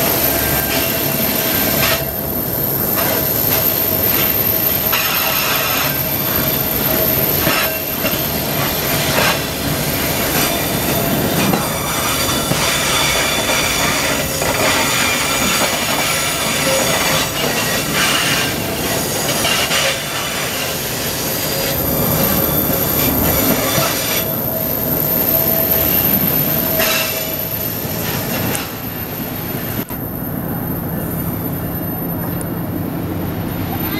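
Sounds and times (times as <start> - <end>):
train wagons rolling on rails: 0.0 - 33.9.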